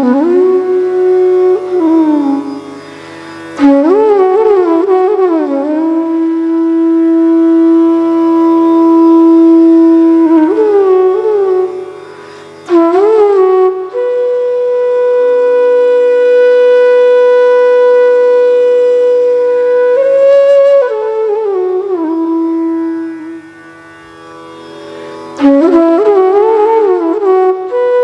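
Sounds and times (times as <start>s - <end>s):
flute melody: 0.0s - 2.8s, 3.6s - 23.7s, 25.4s - 28.0s.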